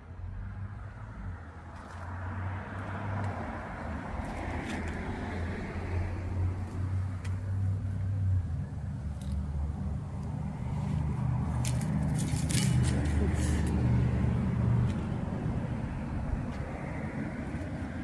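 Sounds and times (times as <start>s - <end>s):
traffic engine hum: 0.0s - 18.0s
tyre noise of passing cars: 0.0s - 18.0s.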